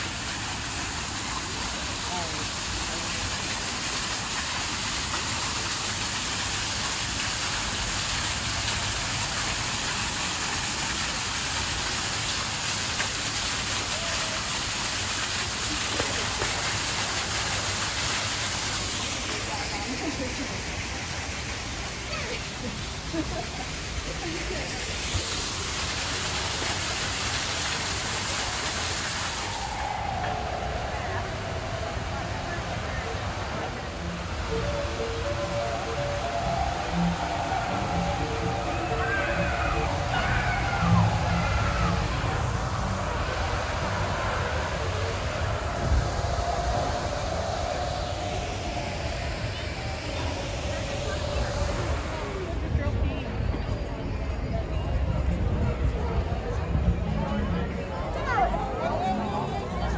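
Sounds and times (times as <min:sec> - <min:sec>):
water falling into a pond: 0:00.0 - 0:55.3
outdoor ambience: 0:00.0 - 0:59.9
rushing noise with low rumble: 0:00.0 - 0:59.9.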